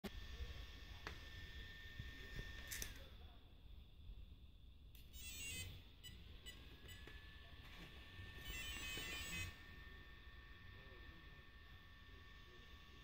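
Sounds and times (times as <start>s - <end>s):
faint high whine: 0.1s - 13.0s.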